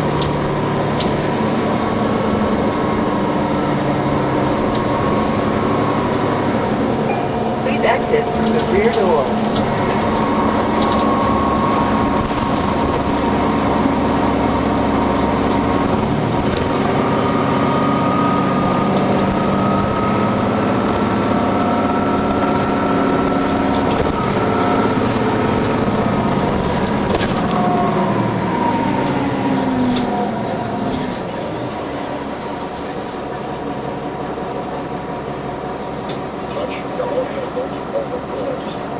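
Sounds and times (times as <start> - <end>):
bus engine whine: 0.0 - 38.9.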